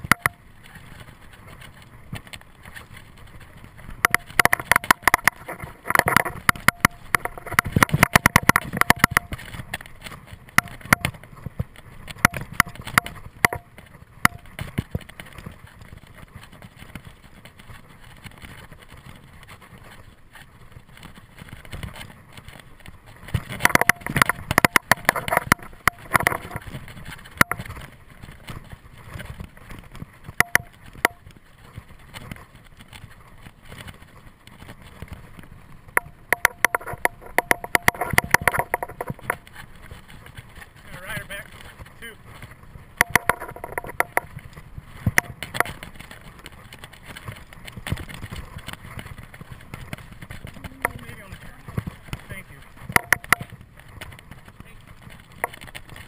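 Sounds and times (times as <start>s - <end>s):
bike rattling over bumps: 0.0s - 56.0s
bike tyres rolling on dirt trail: 0.0s - 56.0s.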